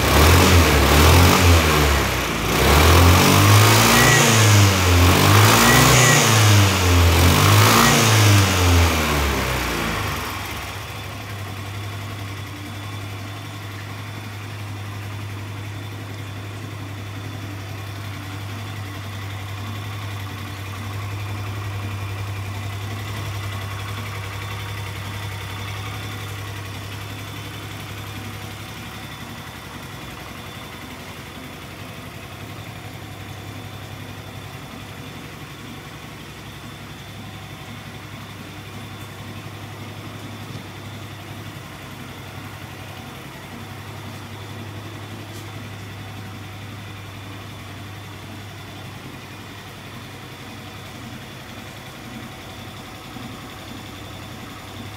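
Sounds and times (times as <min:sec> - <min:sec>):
scooter engine idling: 0:00.0 - 0:54.9.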